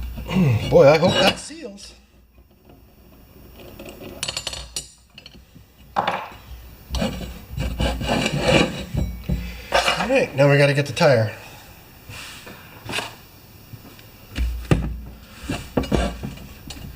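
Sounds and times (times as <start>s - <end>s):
parts rubbing and scraping: 0.0s - 10.4s, 12.1s - 13.2s, 14.3s - 16.9s.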